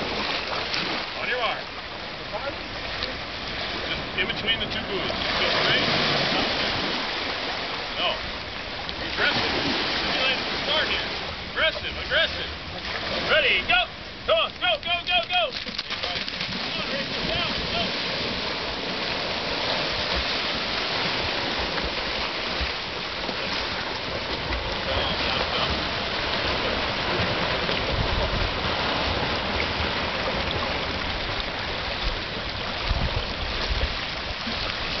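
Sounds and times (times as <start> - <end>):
water splashing at shoreline: 0.0 - 35.0.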